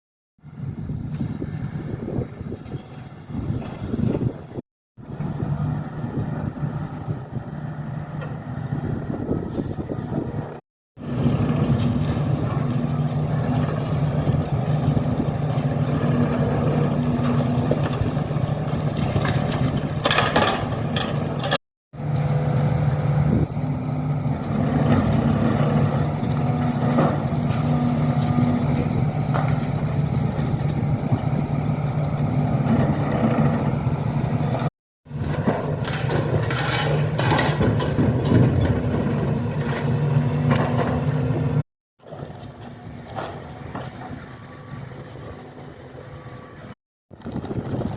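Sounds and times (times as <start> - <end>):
heavy diesel machinery working: 0.4 - 47.9.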